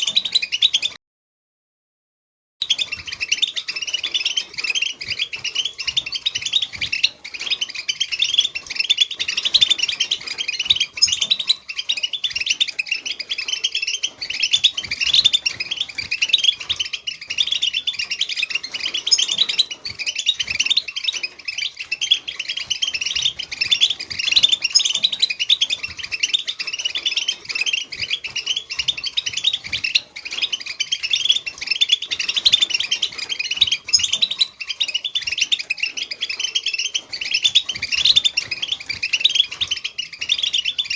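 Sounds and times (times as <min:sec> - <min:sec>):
birds twittering: 0:00.0 - 0:01.0, 0:02.6 - 0:40.9.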